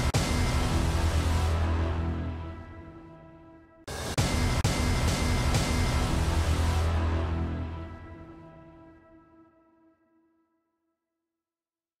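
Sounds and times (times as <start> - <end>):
background music held chord: 0.0 - 11.0.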